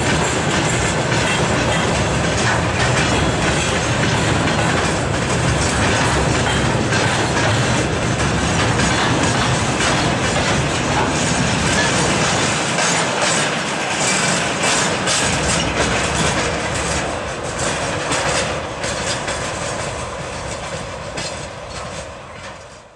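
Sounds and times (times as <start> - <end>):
train wheels clattering over joints: 0.0 - 22.9.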